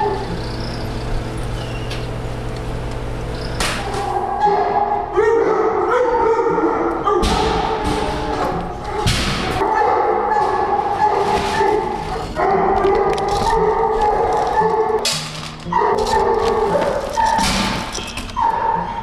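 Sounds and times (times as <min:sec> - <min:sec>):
dogs barking and yelping: 0:00.0 - 0:02.2, 0:03.2 - 0:19.0.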